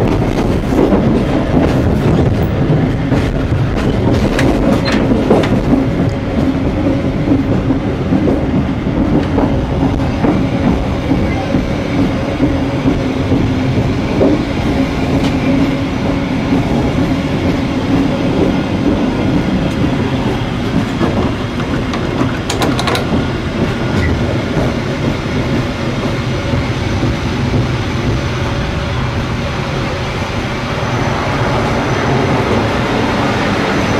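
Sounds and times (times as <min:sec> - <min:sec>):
train rumble from inside carriage: 0:00.0 - 0:33.9.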